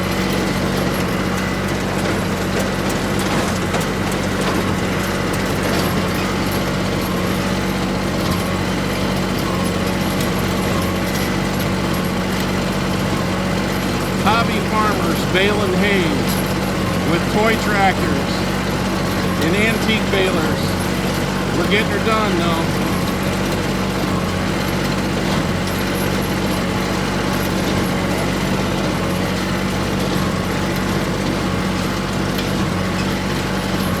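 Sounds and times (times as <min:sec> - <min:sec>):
small tractor engine running: 0:00.0 - 0:34.0.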